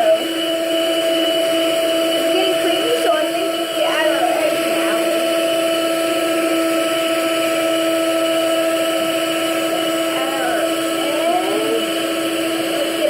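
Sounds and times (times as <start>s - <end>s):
electric mixer whining: 0.0s - 13.0s.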